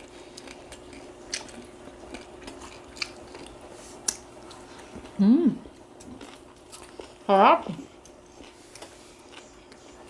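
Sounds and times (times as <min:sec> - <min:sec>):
chewing crispy food: 0:00.0 - 0:10.0.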